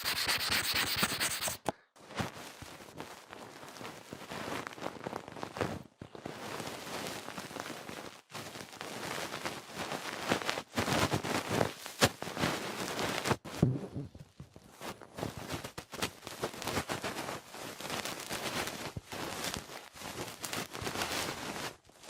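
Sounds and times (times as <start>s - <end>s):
crackly rustling: 1.4s - 22.0s.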